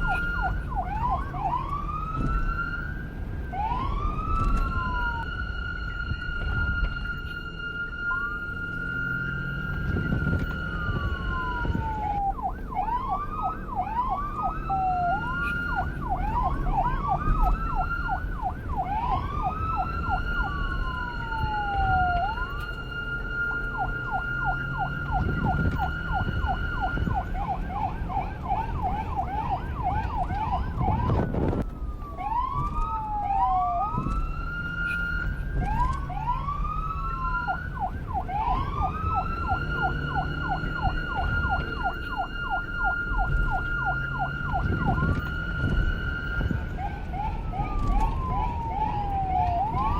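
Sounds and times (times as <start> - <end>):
police siren wailing and yelping: 0.0 - 49.9.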